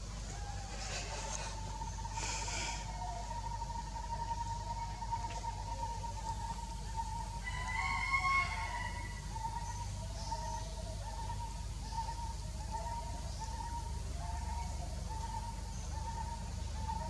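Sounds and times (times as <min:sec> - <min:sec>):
bird hooting: 0:00.0 - 0:17.0
low steady rumble: 0:00.0 - 0:17.0.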